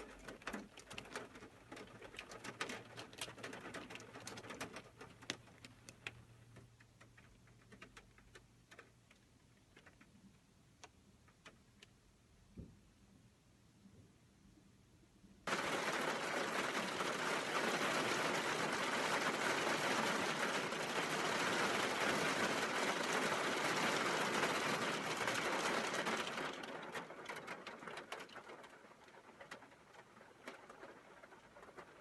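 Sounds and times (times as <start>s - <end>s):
rain and hail on metal roof: 0.0s - 10.1s, 15.5s - 32.0s.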